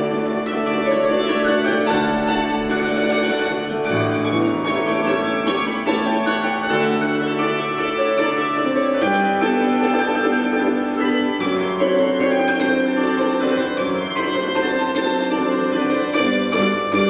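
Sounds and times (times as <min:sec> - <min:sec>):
hammered dulcimers playing a tune: 0:00.0 - 0:17.0.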